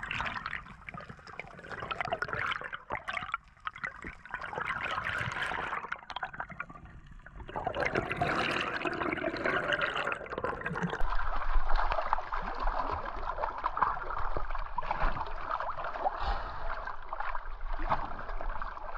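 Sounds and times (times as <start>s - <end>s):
water churning underwater: 0.0s - 18.9s.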